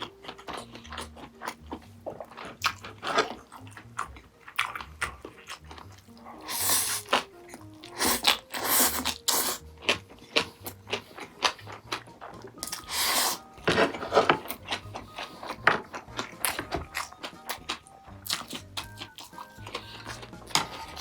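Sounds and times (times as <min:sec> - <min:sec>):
quiet background music: 0:00.0 - 0:21.0
wet chewing: 0:00.0 - 0:21.0.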